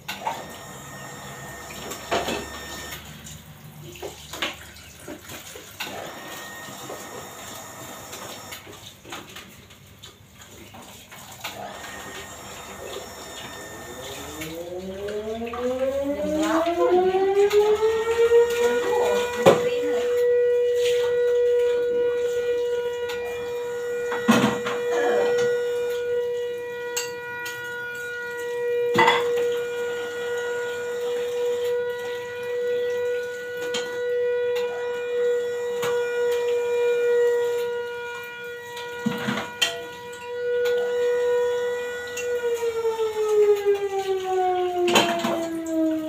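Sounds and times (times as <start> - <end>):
siren winding down: 0.1 - 3.2, 5.8 - 8.6, 11.4 - 46.0.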